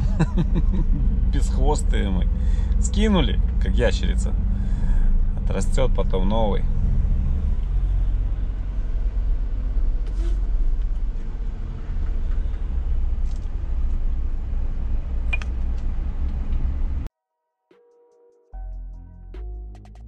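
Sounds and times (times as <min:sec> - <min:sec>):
truck diesel engine rumbling: 0:00.0 - 0:17.1.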